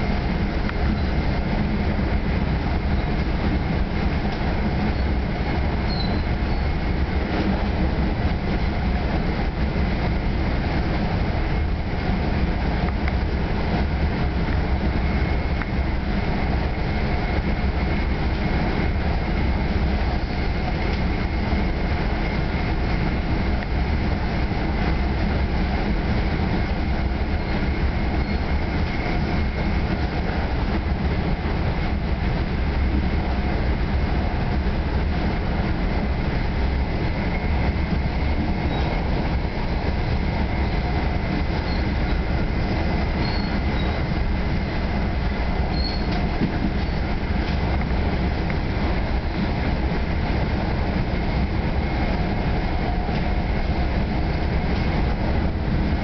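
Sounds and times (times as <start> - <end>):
train coach rumble and rail noise: 0.0 - 56.0.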